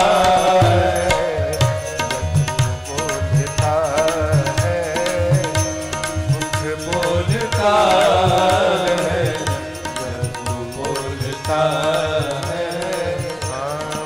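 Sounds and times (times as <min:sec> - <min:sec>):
tabla rhythm: 0:00.0 - 0:14.0.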